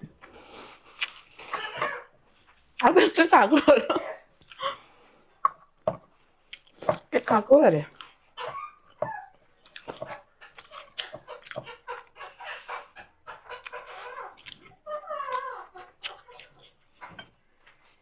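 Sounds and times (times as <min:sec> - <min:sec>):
chewing and crunching: 0:00.0 - 0:03.2, 0:04.2 - 0:18.0.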